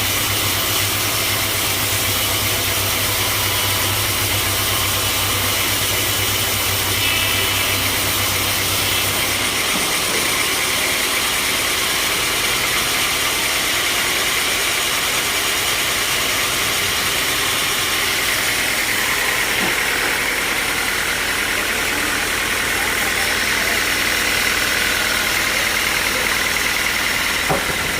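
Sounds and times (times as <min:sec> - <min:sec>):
machinery high whine: 0:00.0 - 0:27.9
sawmill machinery low hum: 0:00.0 - 0:27.9.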